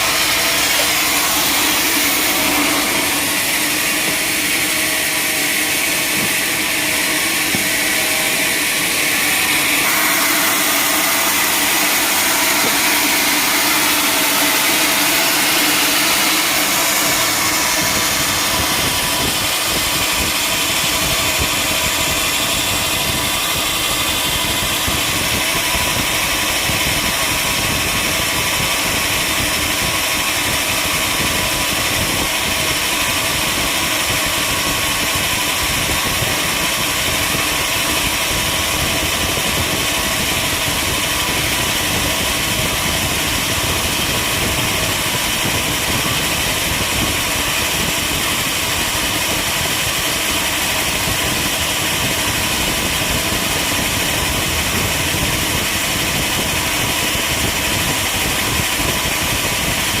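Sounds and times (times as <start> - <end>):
sawmill machinery drone: 0.0 - 60.0.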